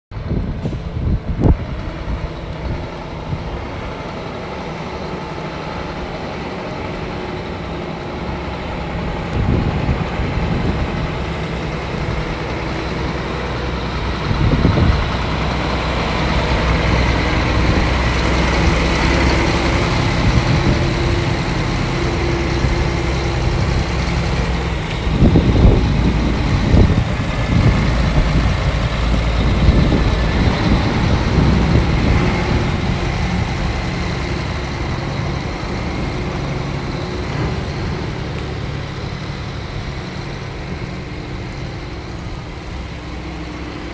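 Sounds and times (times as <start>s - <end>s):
diesel engine running: 0.1s - 43.9s
low rumbles: 0.1s - 43.9s.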